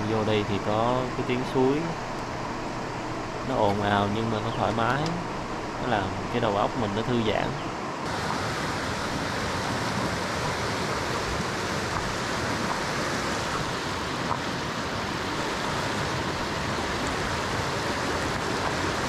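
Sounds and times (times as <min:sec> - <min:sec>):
stream rushing over rapids: 0:00.0 - 0:19.0.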